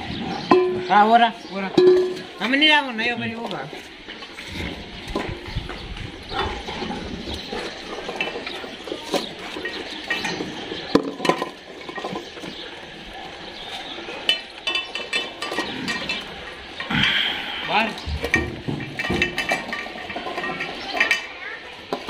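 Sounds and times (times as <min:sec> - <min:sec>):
dogs eating: 0:00.0 - 0:22.0
metal bowls clinking and scraping: 0:00.0 - 0:22.0.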